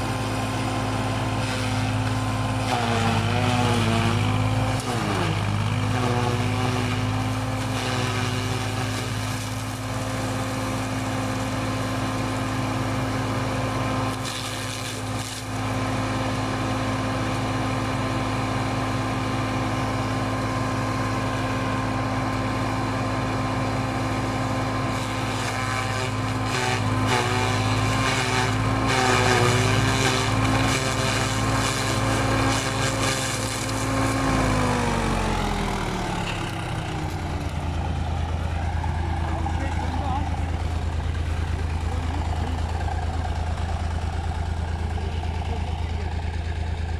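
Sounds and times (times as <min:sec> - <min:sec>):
corn stalks crackling in chopper: 0:00.0 - 0:46.9
tractor engine running: 0:00.0 - 0:46.9.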